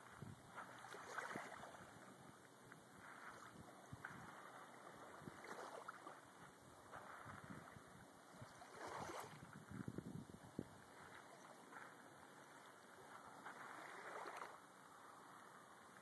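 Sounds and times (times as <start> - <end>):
small waves lapping on sand: 0.0 - 9.7, 10.3 - 16.0.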